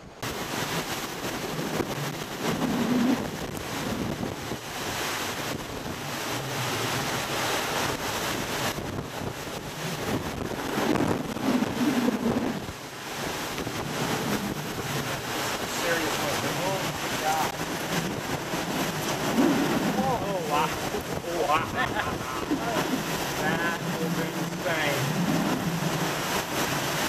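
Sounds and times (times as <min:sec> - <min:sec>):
wind gusts buffeting microphone: 0:00.0 - 0:27.0.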